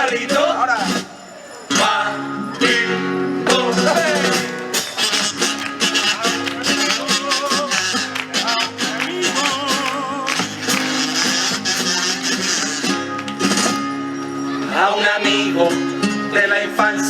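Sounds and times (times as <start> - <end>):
guitars playing: 2.1 - 16.6.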